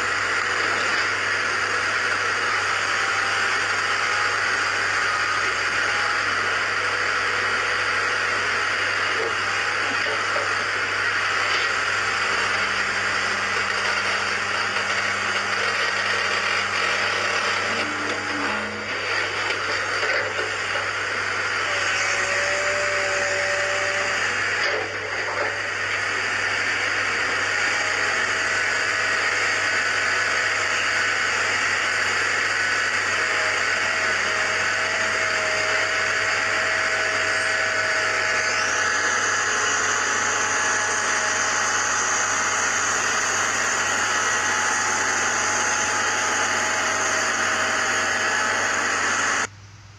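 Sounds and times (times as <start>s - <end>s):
pile breaker cutting concrete: 0.0s - 49.5s
excavator engine and hydraulics: 0.0s - 49.9s.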